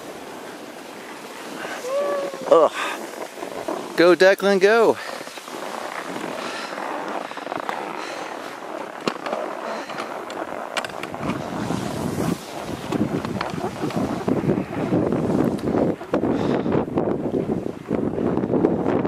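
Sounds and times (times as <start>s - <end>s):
skis scraping over snow: 0.0s - 19.0s
wind buffeting microphone: 0.0s - 19.0s.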